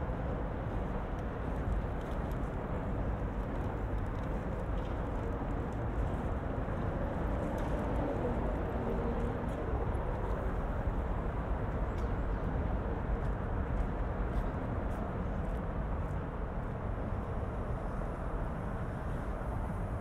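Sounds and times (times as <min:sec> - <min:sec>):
city ambience low rumble: 0:00.0 - 0:20.0.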